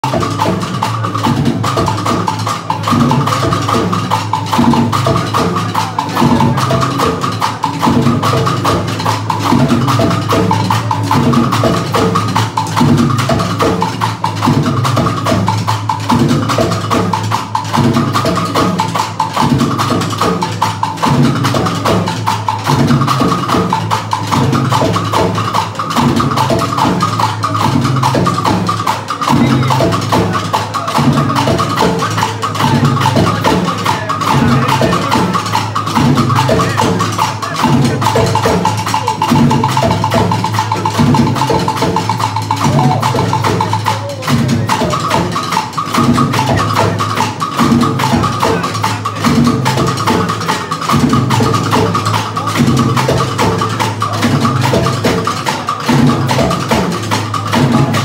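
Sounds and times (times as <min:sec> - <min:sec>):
hand drum: 0:00.0 - 0:58.0
percussion ensemble drumming: 0:00.0 - 0:58.0.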